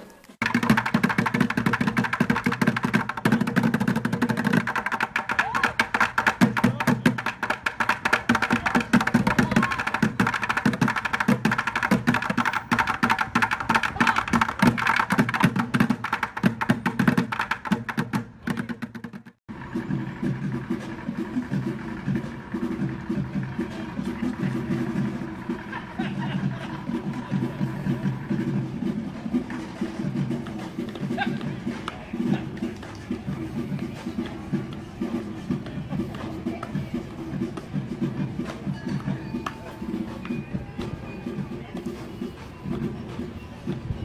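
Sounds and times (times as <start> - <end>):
bucket drumming: 0.4 - 43.4.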